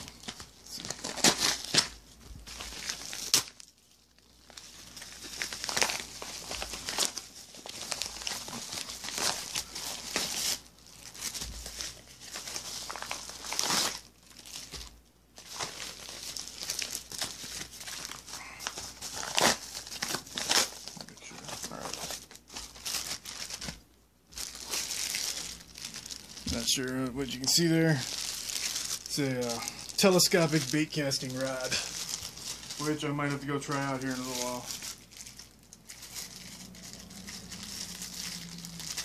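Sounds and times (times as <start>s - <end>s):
packaging crinkling and tearing: 0.0s - 39.0s.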